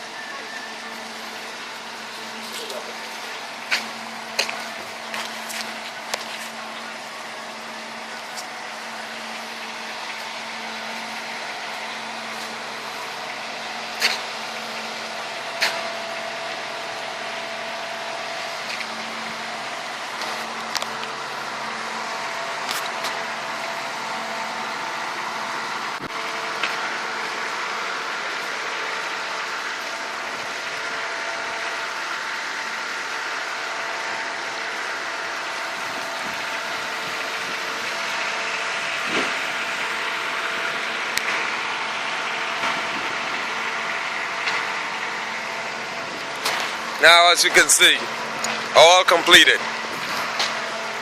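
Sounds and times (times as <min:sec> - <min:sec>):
motor running: 0:00.0 - 0:51.0.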